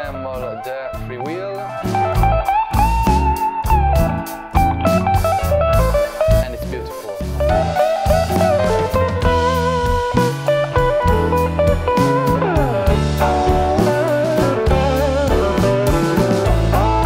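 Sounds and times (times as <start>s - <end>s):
guitar melody over drum beat: 0.0s - 17.0s.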